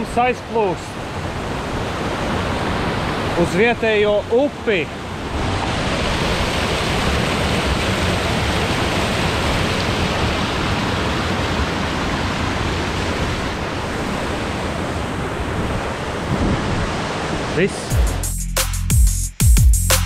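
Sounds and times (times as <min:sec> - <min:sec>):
river rushing over boulders: 0:00.0 - 0:17.8.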